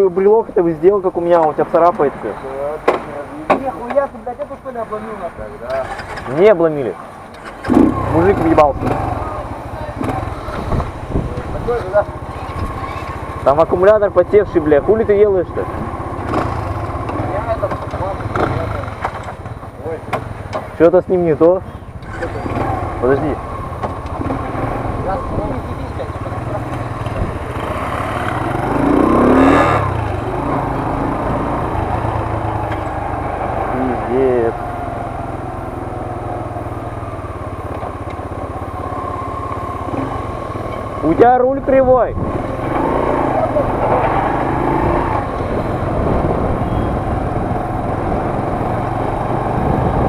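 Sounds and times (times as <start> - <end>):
moped engine revving: 4.6 - 50.0.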